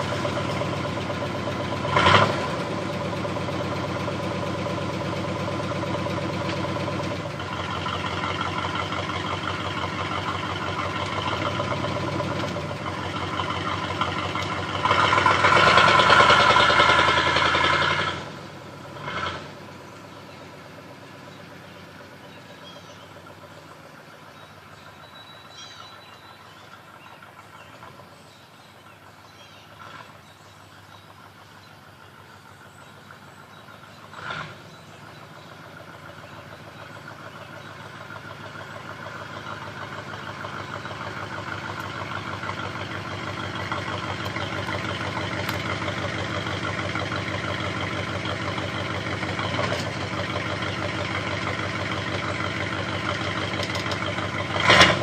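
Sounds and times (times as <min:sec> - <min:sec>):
truck engine exhaust rumbling: 0:00.0 - 0:55.0.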